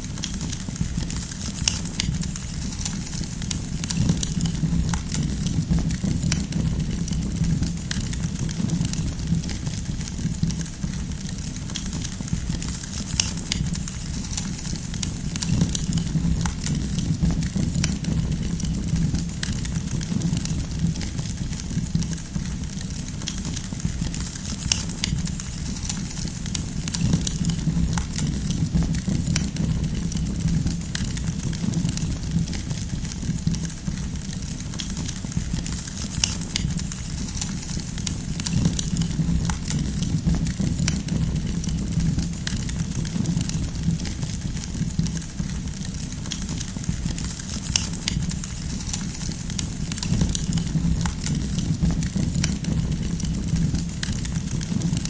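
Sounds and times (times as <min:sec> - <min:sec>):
sharp pops and crackles of logs: 0:00.0 - 0:55.0
wood fire rumbling: 0:00.0 - 0:55.0.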